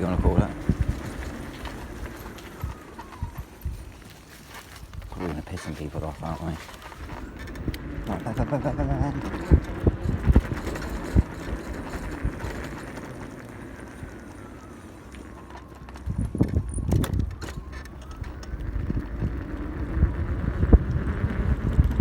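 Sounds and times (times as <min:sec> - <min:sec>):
clattering knocks over bumps: 0:00.0 - 0:22.0
electric bike riding over pavement: 0:00.0 - 0:22.0
faint motor whine: 0:00.0 - 0:22.0.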